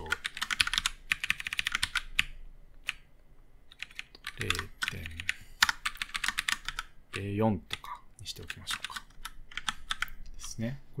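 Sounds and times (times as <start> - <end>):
typing on computer keyboard: 0.0 - 3.0, 3.7 - 7.8, 8.4 - 10.2.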